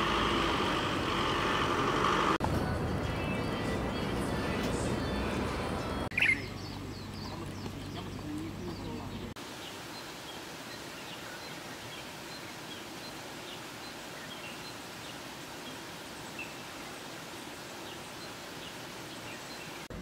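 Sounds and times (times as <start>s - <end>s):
outdoor ambience: 0.0s - 20.0s.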